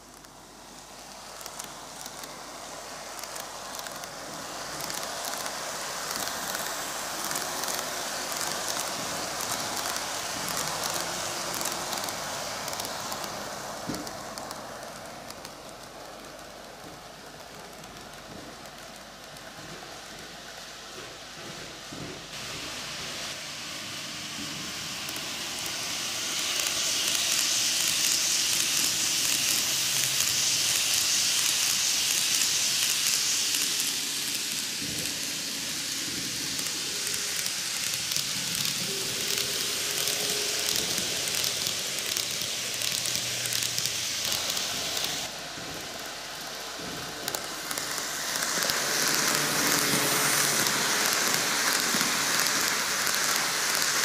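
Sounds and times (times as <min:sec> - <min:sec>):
model train wheels rattling on rails: 0:00.0 - 0:54.0.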